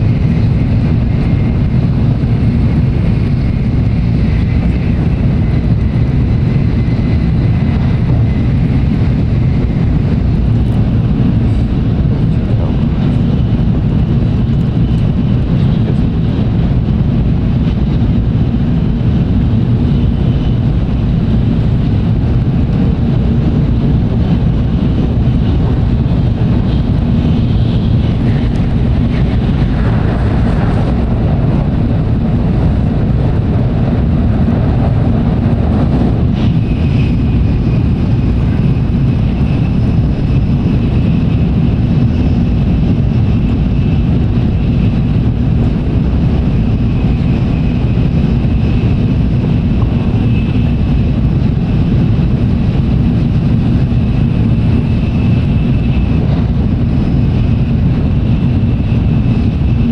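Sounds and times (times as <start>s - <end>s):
train rumble inside car: 0.0s - 59.9s.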